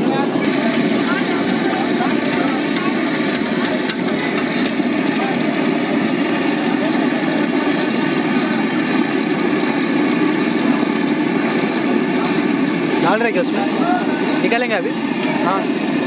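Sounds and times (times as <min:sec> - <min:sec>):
hot oil bubbling and sizzling: 0:00.0 - 0:16.0.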